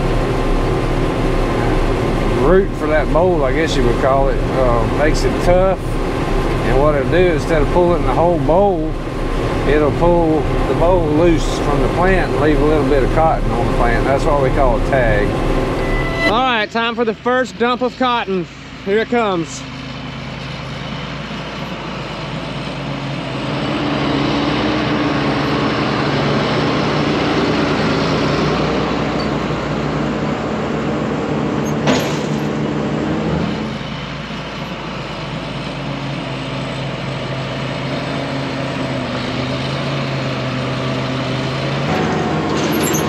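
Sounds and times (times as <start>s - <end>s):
diesel engine under load: 0.0s - 43.0s.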